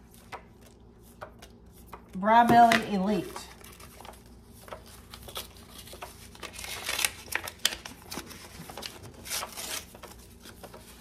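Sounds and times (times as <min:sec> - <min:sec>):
paper and plastic rustling: 0:00.0 - 0:11.0.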